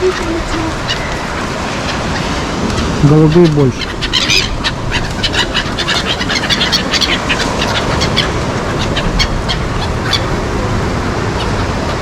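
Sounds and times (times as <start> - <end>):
pigeons and gulls calling: 0.0 - 12.0
steady background rush: 0.0 - 12.0.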